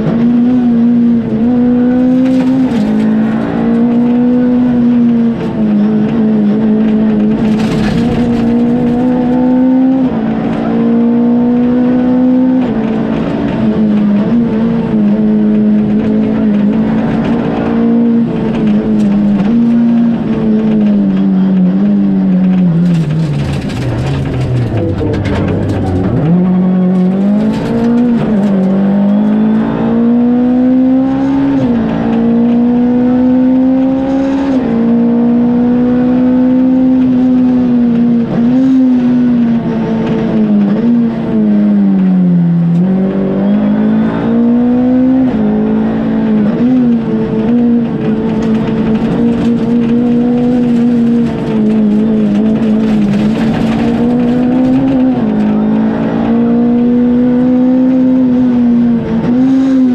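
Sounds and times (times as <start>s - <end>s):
rally car engine at high revs: 0.0s - 59.9s.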